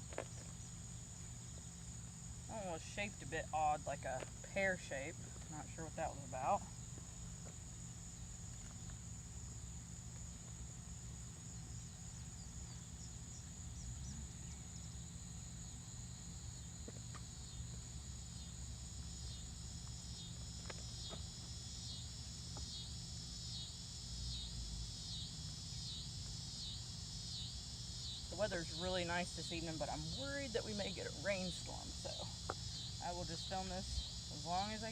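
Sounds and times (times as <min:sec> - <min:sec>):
crickets chirring: 0:00.0 - 0:34.9
insect pulsing call: 0:00.0 - 0:34.9.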